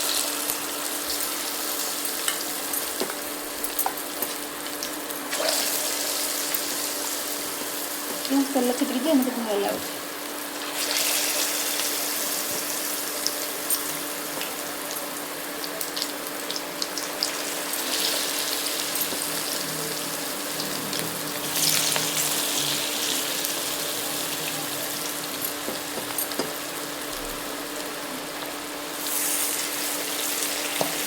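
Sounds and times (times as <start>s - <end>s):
food deep-frying in hot oil: 0.0s - 31.0s.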